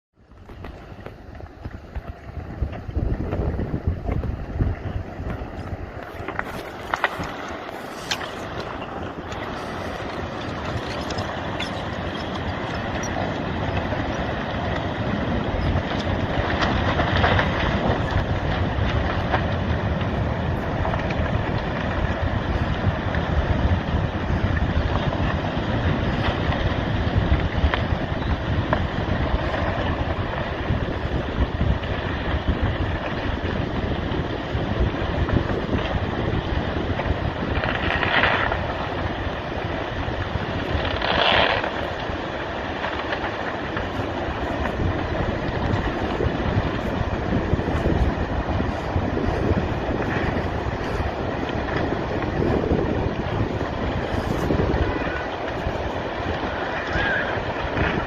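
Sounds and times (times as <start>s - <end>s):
wind rushing across microphone: 0.2s - 58.0s.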